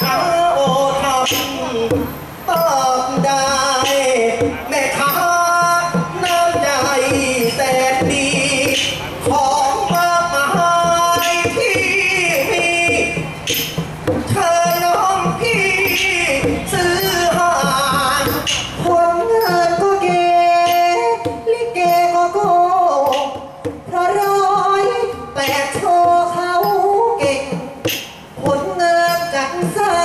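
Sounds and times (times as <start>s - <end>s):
person singing into microphone: 0.0s - 30.0s.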